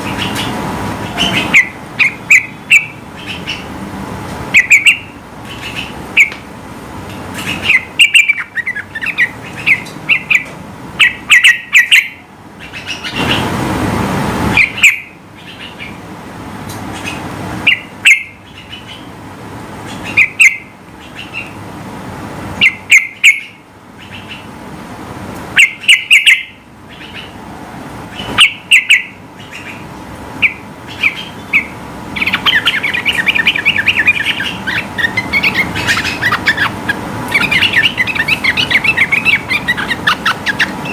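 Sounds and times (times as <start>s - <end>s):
bulbul chattering song: 0.0s - 3.8s, 4.4s - 13.5s, 14.5s - 16.1s, 16.7s - 21.7s, 22.6s - 24.6s, 25.5s - 27.4s, 28.1s - 40.9s.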